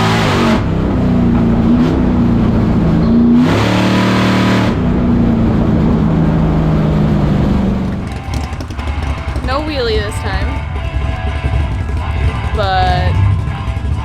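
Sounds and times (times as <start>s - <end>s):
drag car engine running loud: 0.0s - 14.0s.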